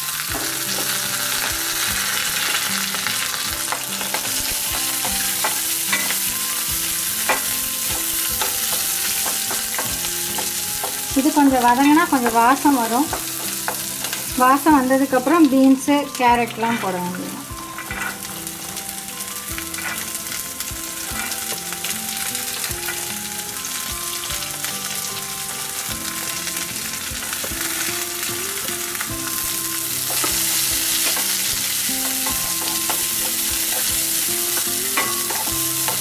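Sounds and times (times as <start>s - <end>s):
vegetables sizzling in hot oil: 0.0s - 36.0s.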